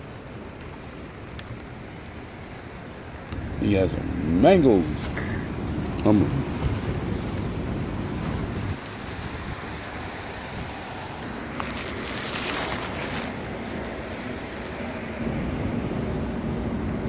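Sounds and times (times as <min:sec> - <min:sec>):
passing cars hum: 0:00.0 - 0:17.0.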